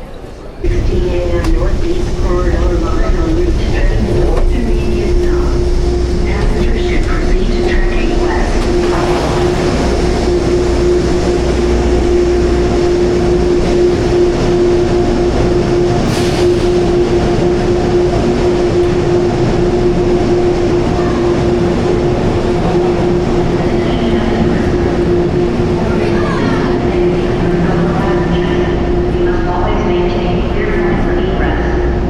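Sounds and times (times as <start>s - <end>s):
train rumbling: 0.0s - 32.0s
constant hum: 0.1s - 32.0s.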